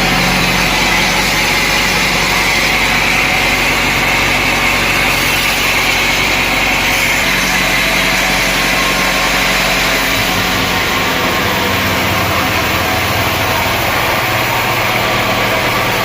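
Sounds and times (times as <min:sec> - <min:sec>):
sawmill machinery humming: 0:00.0 - 0:16.0.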